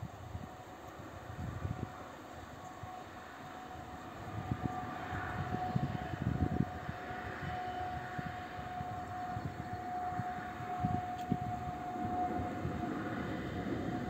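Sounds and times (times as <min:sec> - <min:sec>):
distant passenger train: 0:00.0 - 0:14.0
electric locomotive whine: 0:00.0 - 0:14.0.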